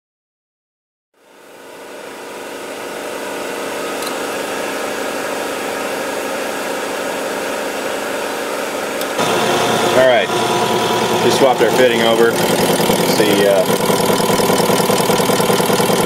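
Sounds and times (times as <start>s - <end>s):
test stand mechanical hum with whine: 1.2s - 16.0s.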